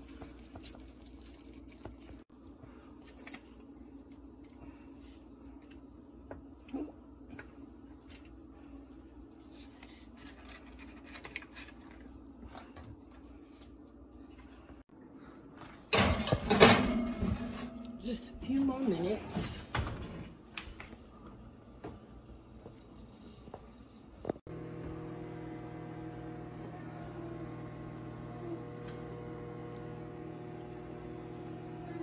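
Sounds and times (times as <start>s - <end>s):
low kitchen hum: 0.0s - 32.0s.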